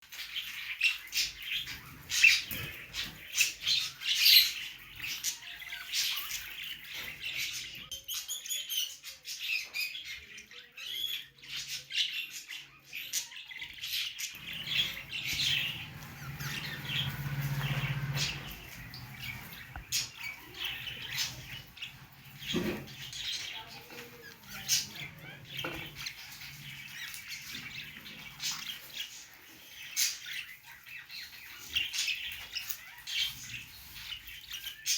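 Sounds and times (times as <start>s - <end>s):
budgerigars chirping and squawking: 0.0s - 34.9s.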